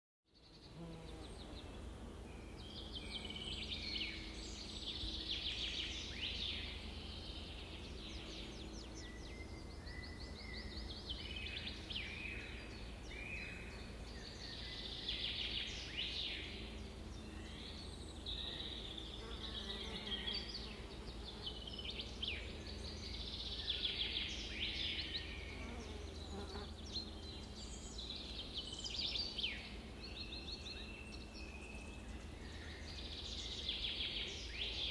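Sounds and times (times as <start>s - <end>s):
birds chirping and trilling: 0.5s - 34.9s.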